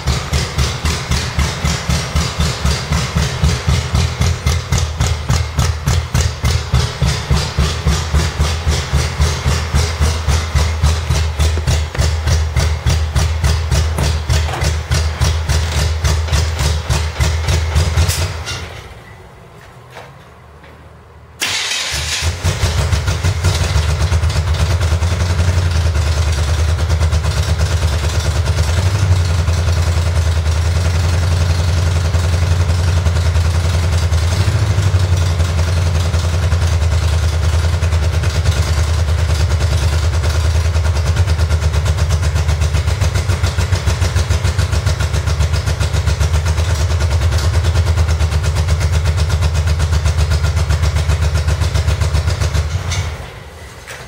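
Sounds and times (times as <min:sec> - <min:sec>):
car engine idling: 0:00.0 - 0:18.6, 0:21.4 - 0:53.3.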